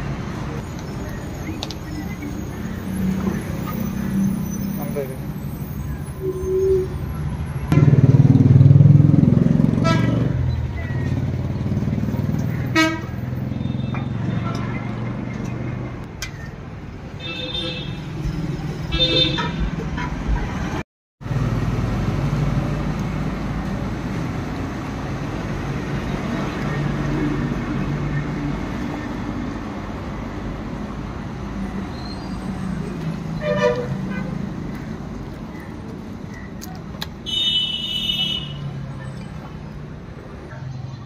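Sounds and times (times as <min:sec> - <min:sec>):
traffic rumble: 0:00.0 - 0:41.0.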